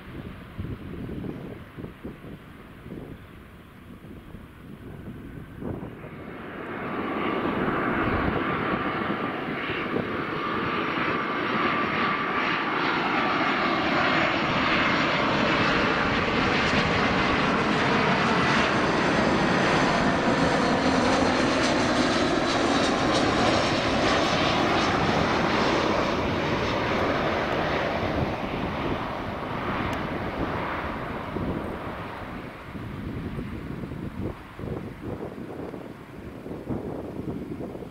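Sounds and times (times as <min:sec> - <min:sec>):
jet airliner engines roaring: 0:00.0 - 0:37.9.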